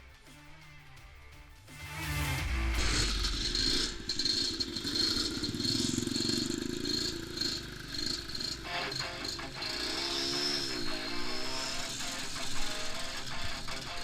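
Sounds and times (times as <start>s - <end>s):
motocross bike engine running: 2.0s - 14.0s.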